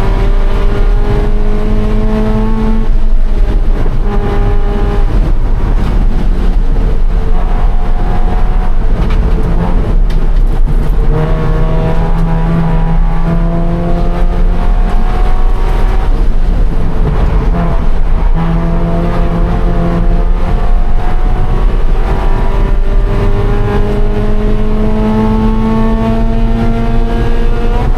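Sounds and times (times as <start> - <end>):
car engine revving hard: 0.0 - 27.9.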